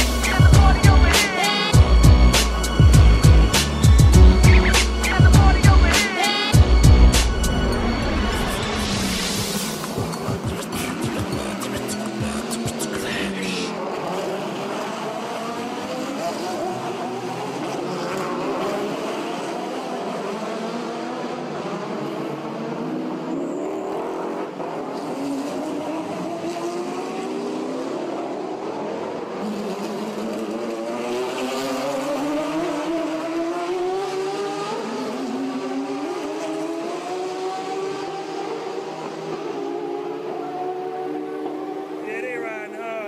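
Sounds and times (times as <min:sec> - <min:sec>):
race car engines accelerating: 0:00.0 - 0:43.0.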